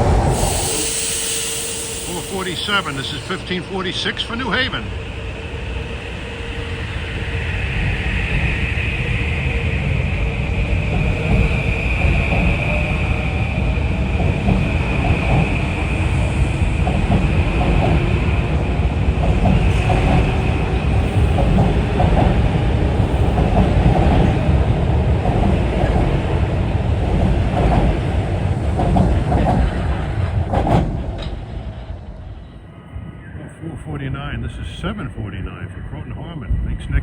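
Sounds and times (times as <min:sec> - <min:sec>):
train wheel and rail noise: 0:00.0 - 0:37.0.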